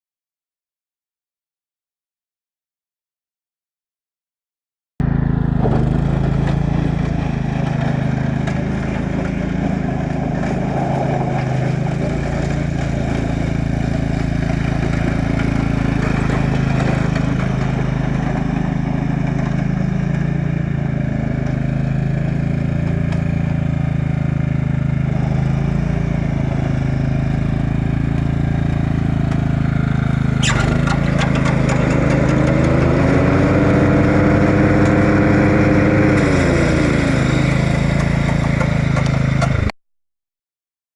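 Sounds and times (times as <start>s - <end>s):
lawn mower engine running: 5.0s - 39.8s.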